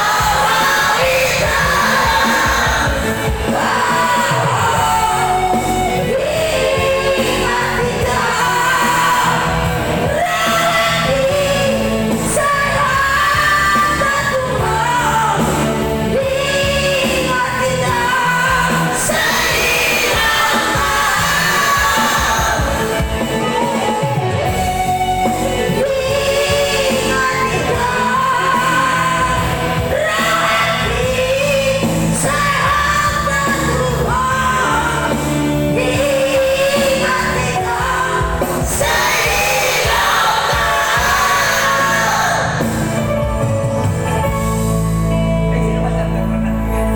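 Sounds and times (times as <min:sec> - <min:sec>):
person singing: 0:00.0 - 0:43.4
instrumental accompaniment with bass: 0:00.0 - 0:46.9.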